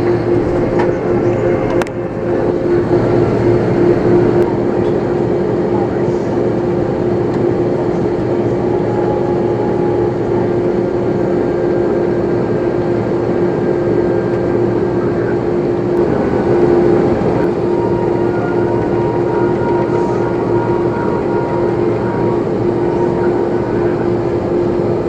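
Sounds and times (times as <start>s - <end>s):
airliner cabin engine rush: 0.0s - 25.0s
mid-pitched hum: 0.0s - 25.0s.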